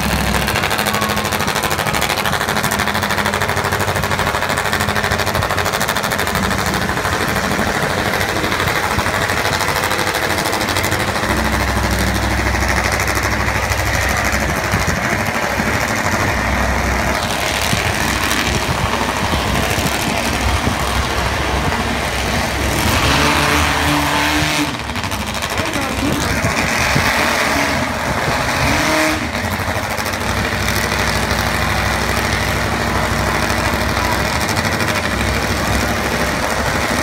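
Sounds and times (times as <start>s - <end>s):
hammering engine idle: 0.0s - 37.0s.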